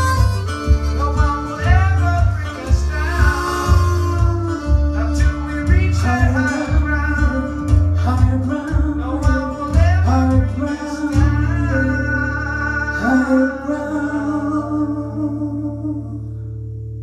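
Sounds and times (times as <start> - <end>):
strummed acoustic guitar: 0.0 - 15.5
person singing: 0.0 - 16.4.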